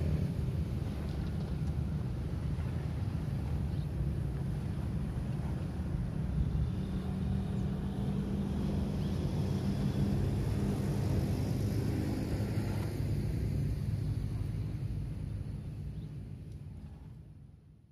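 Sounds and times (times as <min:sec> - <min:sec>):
low engine rumble: 0:00.0 - 0:17.9.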